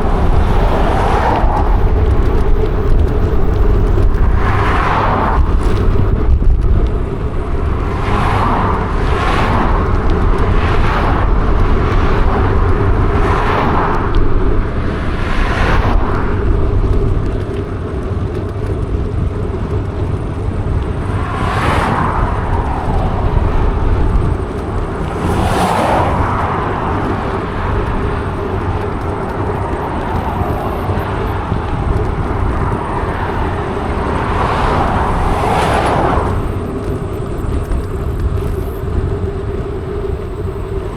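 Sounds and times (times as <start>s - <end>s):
road traffic passing: 0.0s - 40.9s
steady low rumble: 0.0s - 40.9s.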